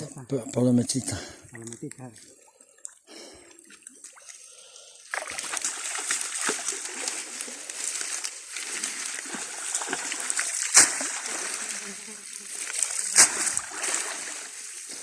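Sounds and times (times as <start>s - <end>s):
pond water splashing and trickling: 0.0s - 15.0s.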